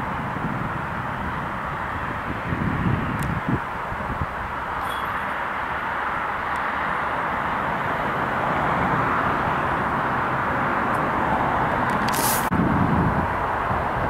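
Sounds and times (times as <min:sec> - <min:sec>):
outdoor rushing noise: 0:00.0 - 0:14.0.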